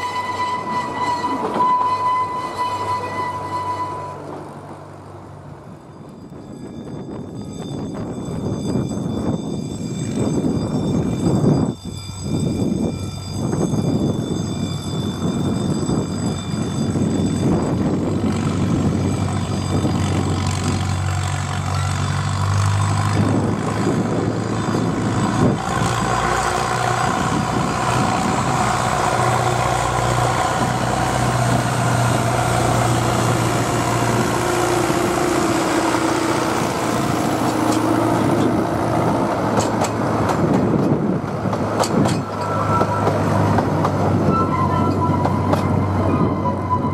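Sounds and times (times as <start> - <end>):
diesel locomotive engine drone: 0.0 - 46.9
train coaches rolling on rails: 0.0 - 46.9.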